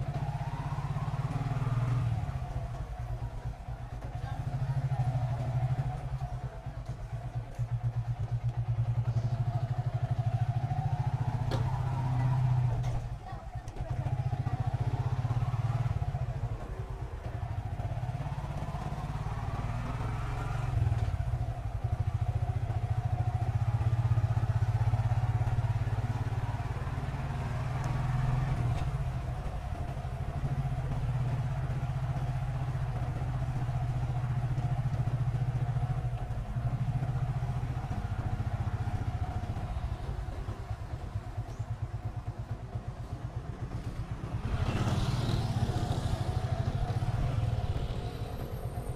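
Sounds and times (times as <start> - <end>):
small motorcycle engine running: 0.0 - 48.9.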